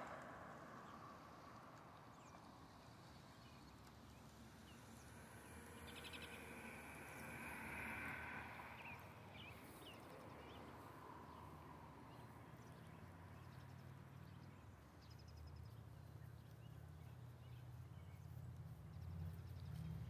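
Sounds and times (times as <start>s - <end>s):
faint low outdoor rumble: 0.0s - 20.0s.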